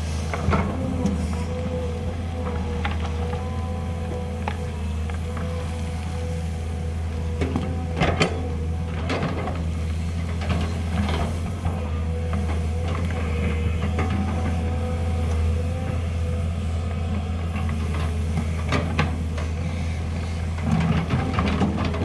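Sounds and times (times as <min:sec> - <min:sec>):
excavator diesel engine: 0:00.0 - 0:22.0
steady whine: 0:00.0 - 0:22.0.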